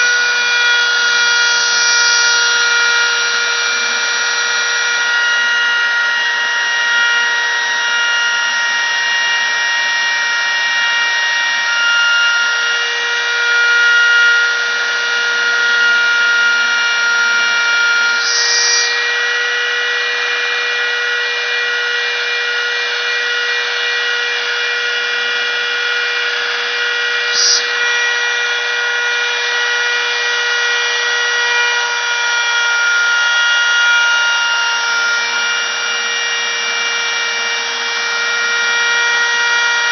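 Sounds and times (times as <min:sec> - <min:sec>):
cnc machine whining: 0:00.0 - 0:39.9.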